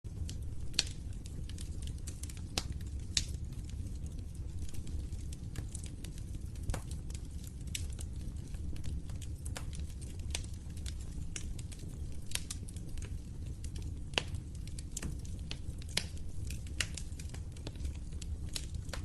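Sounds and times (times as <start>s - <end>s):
wood fire crackling in fireplace: 0.1s - 19.0s.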